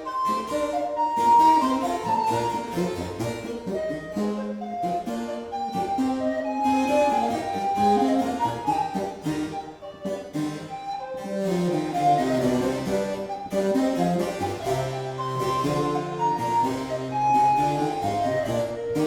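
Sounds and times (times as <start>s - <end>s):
baroque chamber music: 0.0s - 19.0s.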